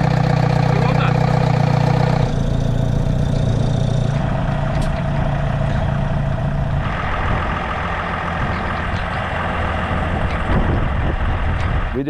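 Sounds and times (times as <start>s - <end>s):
steady whine: 0.0s - 12.0s
tow truck engine running: 0.0s - 12.0s.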